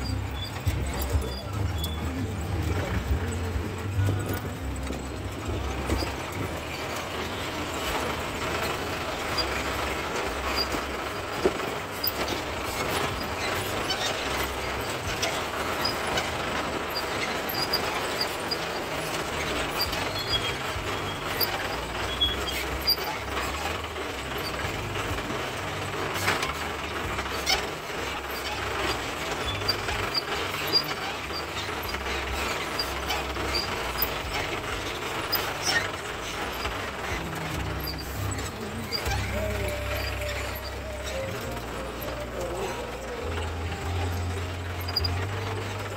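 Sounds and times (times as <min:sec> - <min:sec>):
body rattling: 0:00.0 - 0:45.9
jeep engine rumble: 0:00.0 - 0:45.9.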